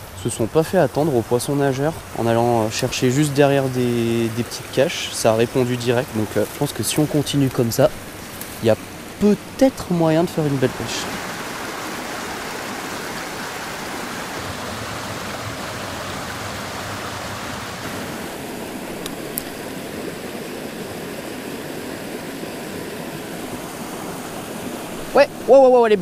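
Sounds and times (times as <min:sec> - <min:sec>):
river flowing over rocks: 0:00.0 - 0:26.0.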